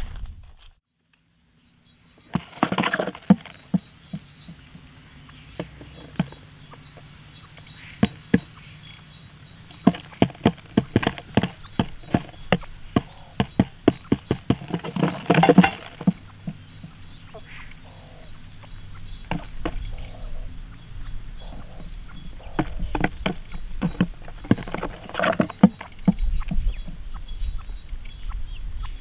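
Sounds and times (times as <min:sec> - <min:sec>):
rustling: 0:00.0 - 0:00.8, 0:02.2 - 0:27.1.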